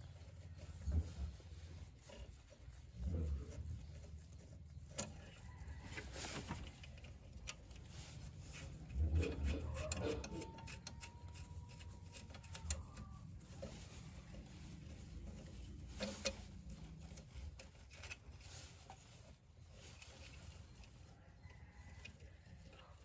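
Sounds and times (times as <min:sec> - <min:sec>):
rubbing and scraping: 0:00.0 - 0:23.0.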